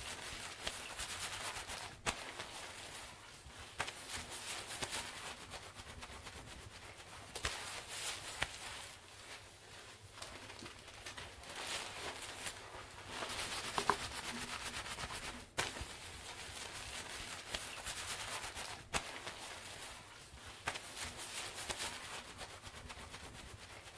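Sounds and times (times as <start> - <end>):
wet hair rustling and crackling: 0.0 - 23.9.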